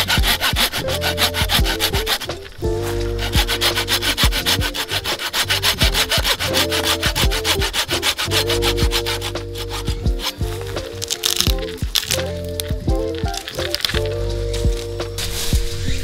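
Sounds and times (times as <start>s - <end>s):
saw cutting branch: 0.0s - 15.8s
background music with held chords: 0.0s - 16.0s.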